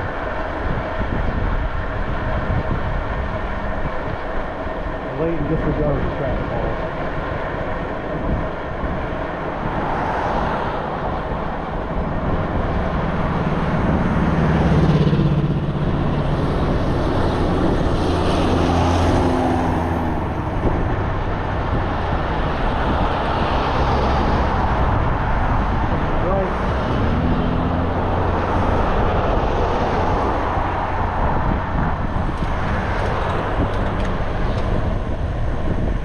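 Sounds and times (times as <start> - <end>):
vehicles passing: 0.0 - 36.0
wind rumble on microphone: 0.0 - 36.0.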